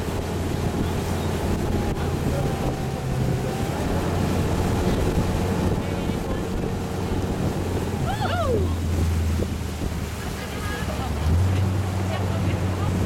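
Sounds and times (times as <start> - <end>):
boat engine running: 0.0 - 13.0
churning boat wake: 0.0 - 13.0
wind buffeting microphone: 0.0 - 13.0.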